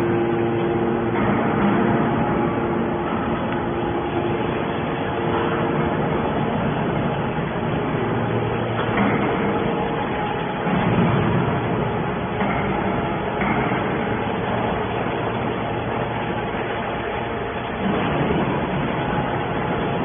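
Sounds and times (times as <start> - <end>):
baler machine hum: 0.0 - 20.0
noisy background: 0.0 - 20.0.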